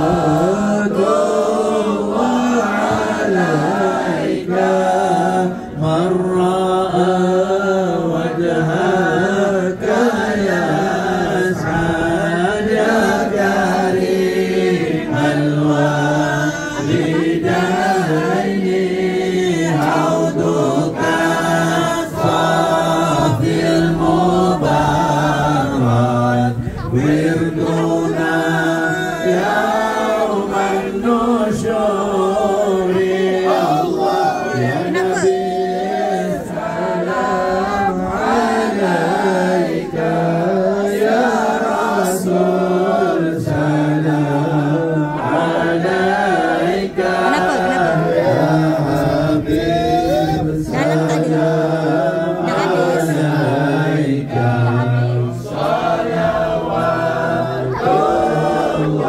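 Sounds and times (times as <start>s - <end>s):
congregation chanting unaccompanied: 0.0s - 59.0s.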